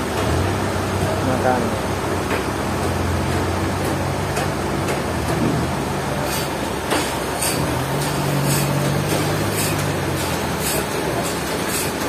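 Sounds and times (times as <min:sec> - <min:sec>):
forklift engine running: 0:00.0 - 0:12.0.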